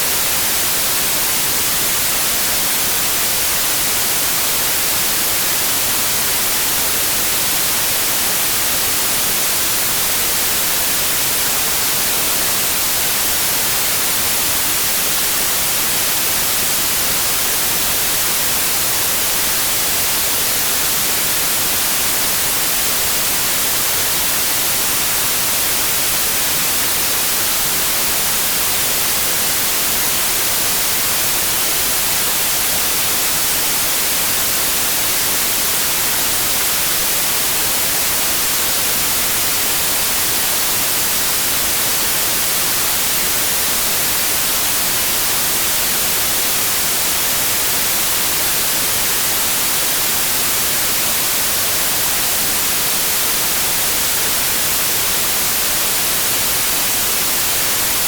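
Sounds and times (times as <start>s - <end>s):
steady white noise: 0.0s - 58.0s.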